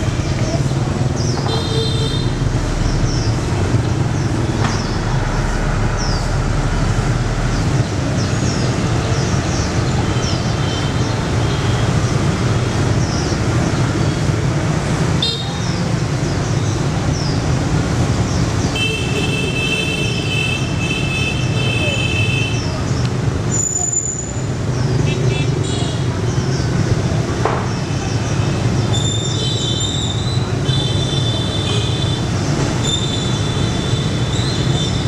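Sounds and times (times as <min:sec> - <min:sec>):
motorbike engines passing by: 0:00.0 - 0:35.0.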